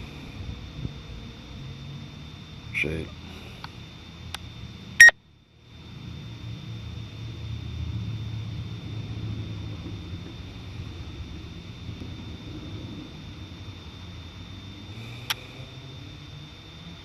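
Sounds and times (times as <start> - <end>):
faint high whine: 0.0 - 17.0
low hum: 0.0 - 17.0.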